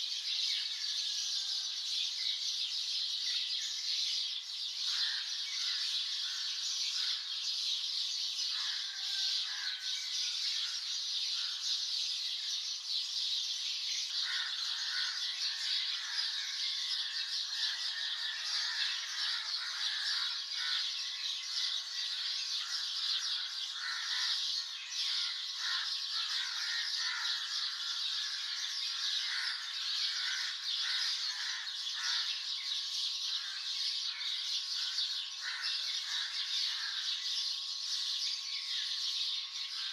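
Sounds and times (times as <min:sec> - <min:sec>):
birds chirping: 0:01.6 - 0:39.9.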